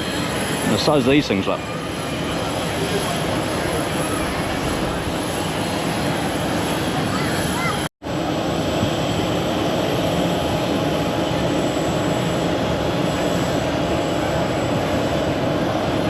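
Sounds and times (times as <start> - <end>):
aircraft engine noise: 0.0 - 16.0.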